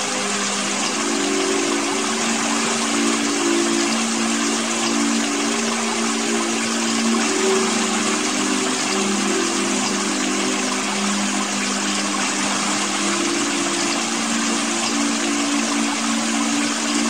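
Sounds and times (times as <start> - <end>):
small waterfall splashing into pool: 0.0 - 17.0.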